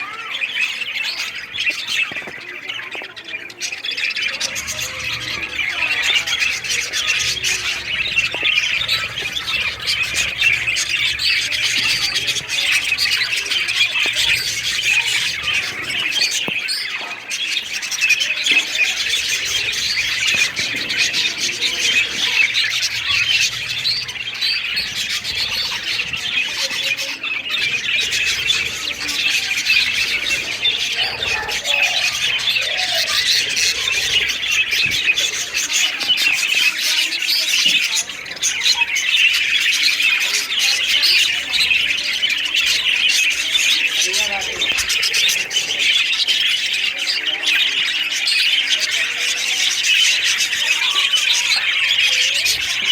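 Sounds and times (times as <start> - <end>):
small birds chattering and squawking: 0.0 - 52.9.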